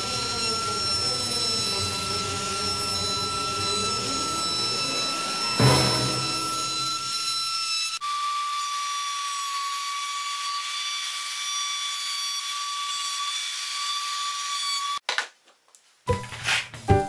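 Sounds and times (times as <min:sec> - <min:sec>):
router whining while cutting wood: 0:00.0 - 0:15.0.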